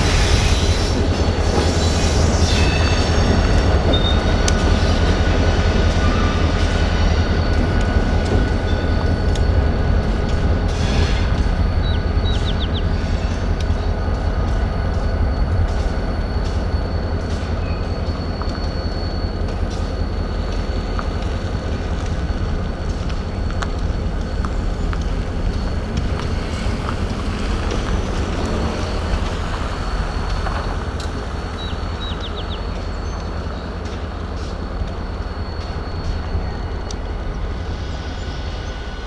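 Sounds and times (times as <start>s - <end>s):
diesel locomotive rumble: 0.0s - 39.0s
high wheel squeal: 0.0s - 39.0s.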